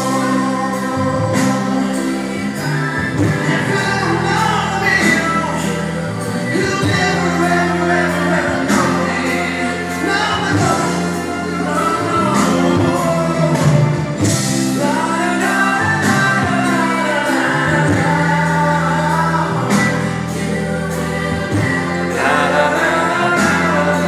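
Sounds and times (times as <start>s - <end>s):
backing track music: 0.0s - 24.0s
man singing into microphone: 0.0s - 24.0s.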